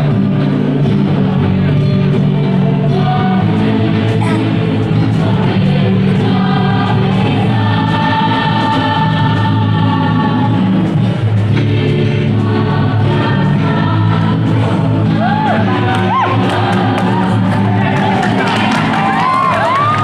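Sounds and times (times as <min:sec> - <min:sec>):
choir singing in harmony: 0:00.0 - 0:20.0.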